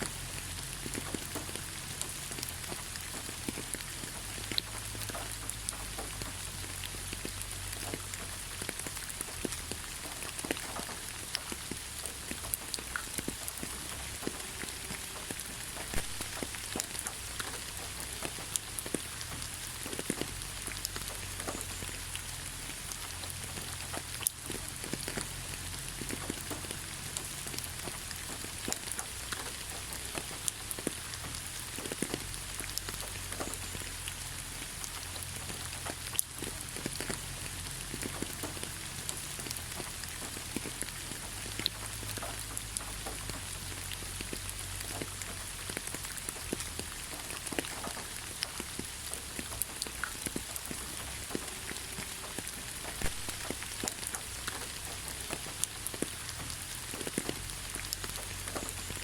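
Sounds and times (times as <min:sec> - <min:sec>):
rain hissing on leaves: 0:00.0 - 0:59.0
raindrops pattering: 0:00.0 - 0:59.0.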